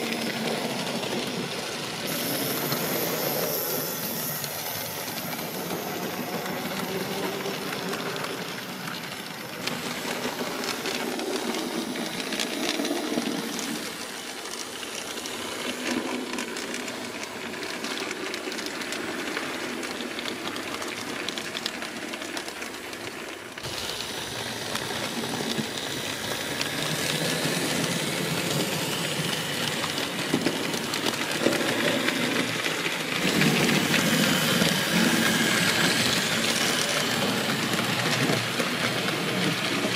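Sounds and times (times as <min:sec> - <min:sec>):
model train rolling on track: 0:00.0 - 0:39.9
wheels clicking: 0:00.0 - 0:39.9.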